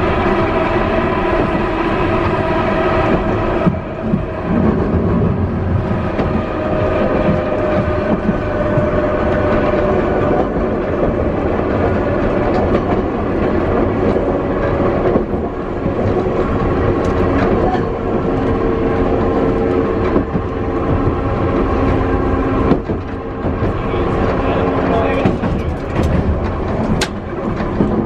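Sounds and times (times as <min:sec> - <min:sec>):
tram motor whine: 0:00.0 - 0:28.0
wheels rumbling on rail: 0:00.0 - 0:28.0
wheels clicking over rail joints: 0:02.2 - 0:28.0.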